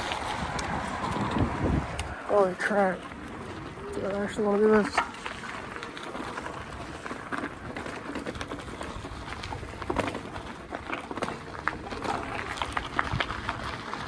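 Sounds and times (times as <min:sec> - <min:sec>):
bike clicks and rattles: 0:00.0 - 0:14.0
tyres crunching over debris: 0:00.0 - 0:14.0.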